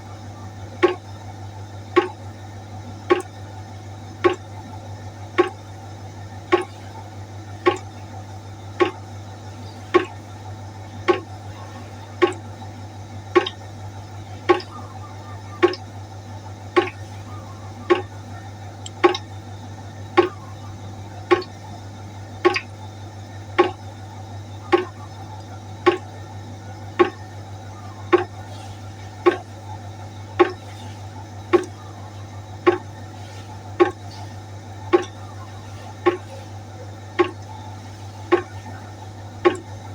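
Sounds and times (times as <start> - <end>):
steady low hum: 0.0 - 39.9
water dripping into a pot: 0.0 - 39.9.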